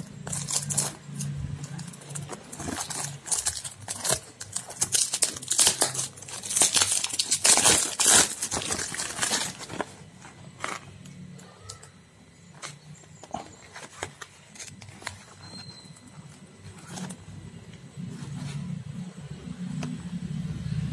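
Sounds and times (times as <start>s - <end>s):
cardboard crinkling and rustling: 0.0s - 11.2s, 12.5s - 19.0s.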